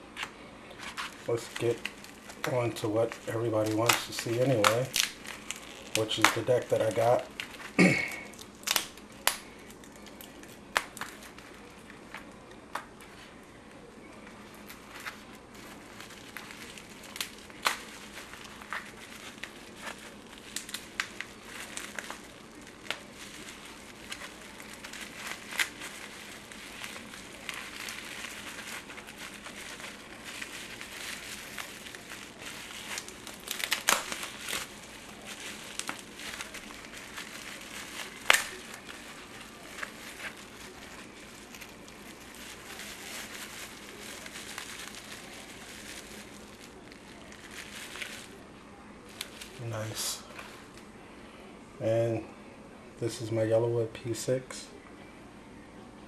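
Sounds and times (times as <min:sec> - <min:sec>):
bubble wrap snapping: 0:00.0 - 0:50.9
bubble wrap crinkling: 0:00.0 - 0:51.1.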